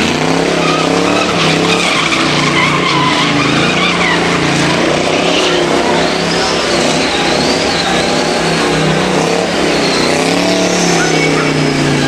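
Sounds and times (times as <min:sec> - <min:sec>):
engine revving high: 0:00.0 - 0:12.0
tyres squealing: 0:00.2 - 0:12.0.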